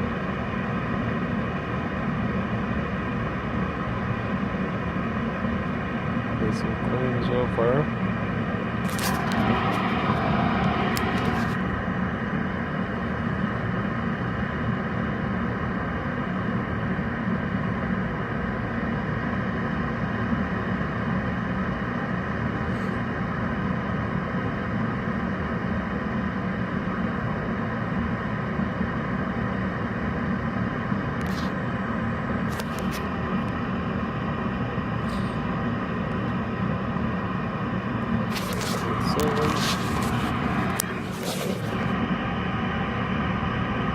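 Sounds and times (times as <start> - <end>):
gas furnace running: 0.0 - 43.9.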